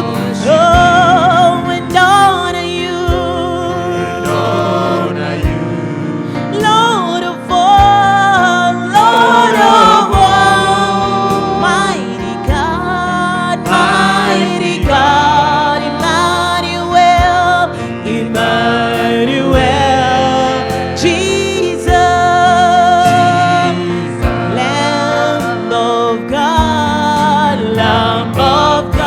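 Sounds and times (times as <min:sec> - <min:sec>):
band with keyboard and drums: 0:00.0 - 0:29.0
voices singing together: 0:00.0 - 0:29.0.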